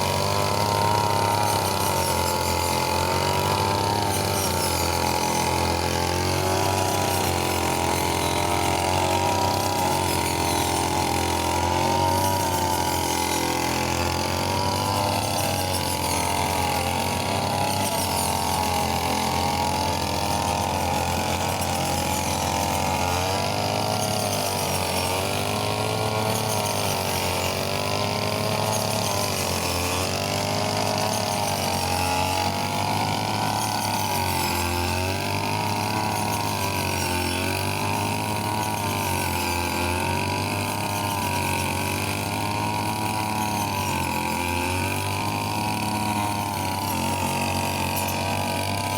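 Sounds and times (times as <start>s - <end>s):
brush cutter engine running: 0.0s - 48.9s.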